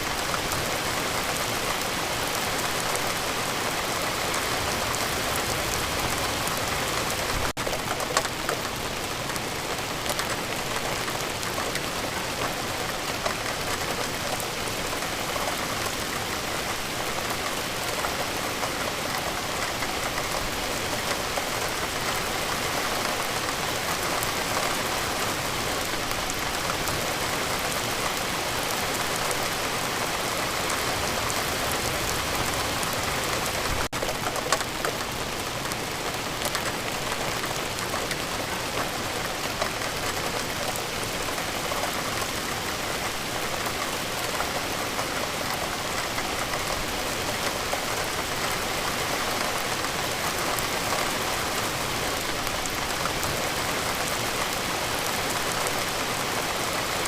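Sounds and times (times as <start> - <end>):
rain hiss: 0.0 - 57.0
sharp raindrop ticks: 4.1 - 25.2, 30.2 - 57.0.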